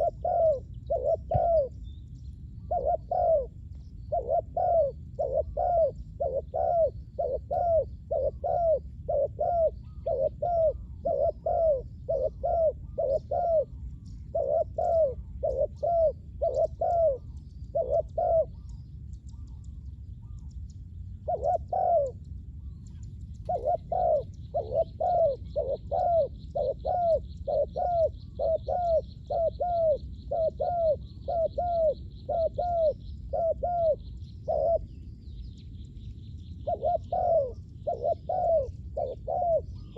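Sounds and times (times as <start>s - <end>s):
doves cooing: 0.0s - 1.8s, 2.6s - 20.6s, 21.2s - 34.9s, 36.6s - 39.9s.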